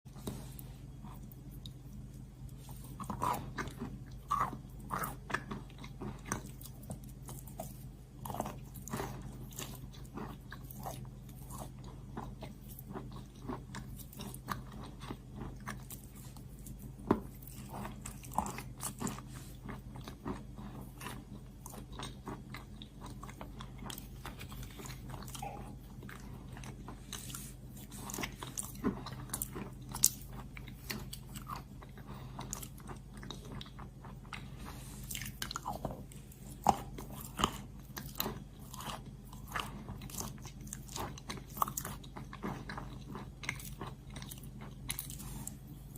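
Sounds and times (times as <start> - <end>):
chalk crunching and chewing: 0.1 - 45.9
steady low hum: 0.1 - 45.9.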